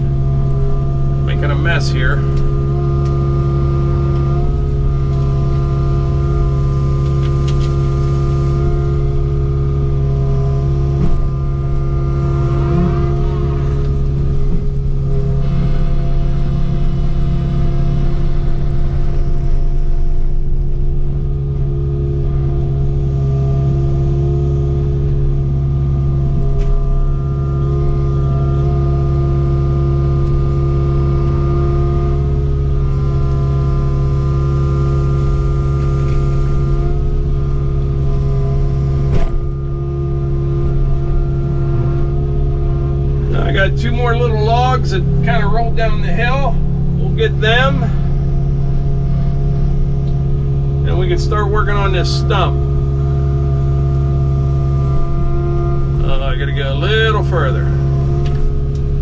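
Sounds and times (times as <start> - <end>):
excavator diesel engine running: 0.0 - 59.0
hydraulic whine: 0.0 - 59.0.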